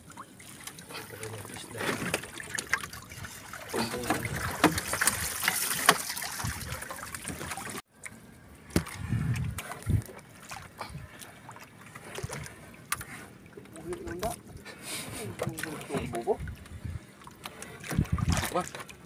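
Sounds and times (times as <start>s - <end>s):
water splashing and dripping: 0.0s - 19.0s.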